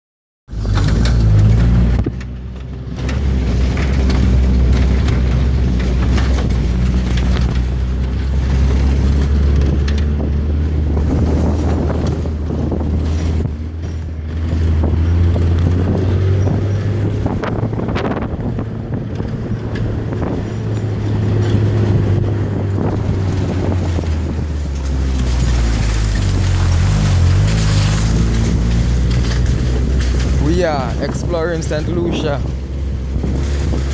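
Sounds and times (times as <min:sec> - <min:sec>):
engine rumbling: 0:00.5 - 0:33.9
wind buffeting microphone: 0:00.6 - 0:33.9.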